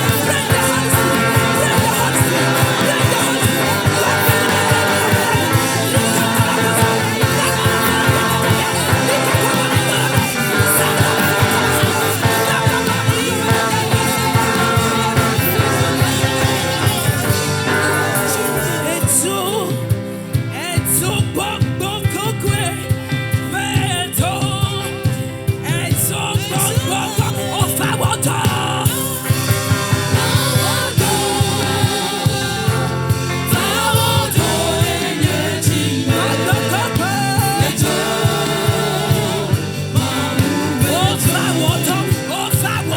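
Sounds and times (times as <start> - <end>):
gospel band playing: 0.0 - 42.9
person singing: 0.0 - 42.9.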